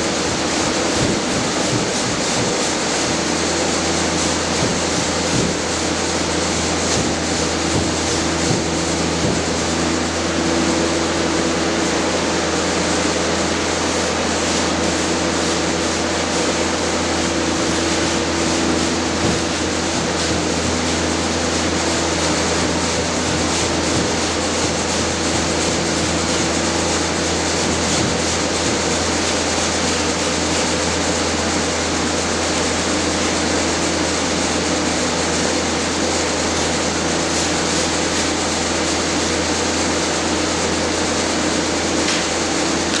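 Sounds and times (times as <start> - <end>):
mechanical noise with low hum: 0.0 - 43.0.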